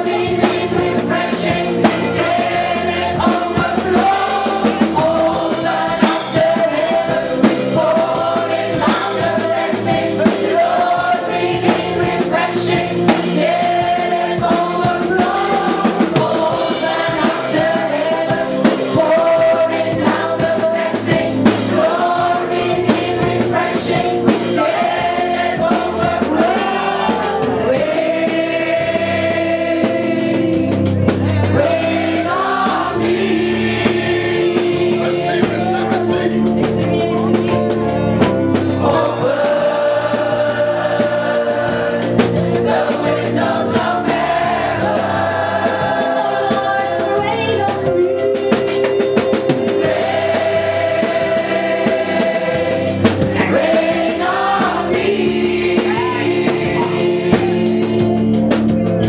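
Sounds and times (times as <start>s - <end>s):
congregation singing: 0.0s - 59.0s
instrumental backing: 0.0s - 59.0s.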